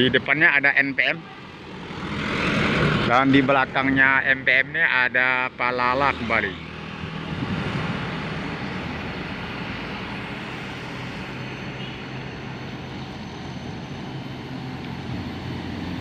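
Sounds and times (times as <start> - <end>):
buses passing: 0.0 - 16.0
tyre and road noise: 0.0 - 16.0.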